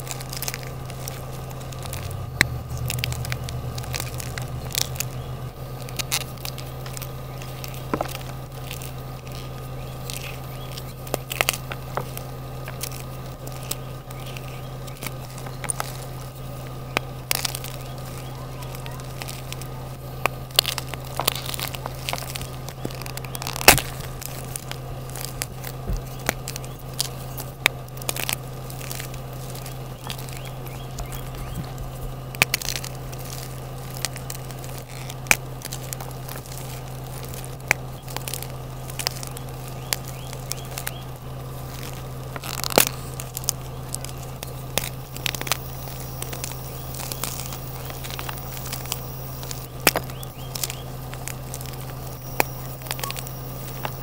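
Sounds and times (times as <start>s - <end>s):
chalk crunching and crackling: 0.0s - 54.0s
loud chalk cracks: 0.0s - 54.0s.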